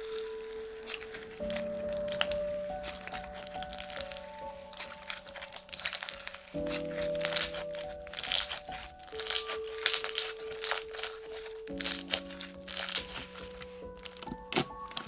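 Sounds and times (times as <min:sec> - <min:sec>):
background music with held notes: 0:00.0 - 0:15.0
slime crackling and popping: 0:00.0 - 0:15.0.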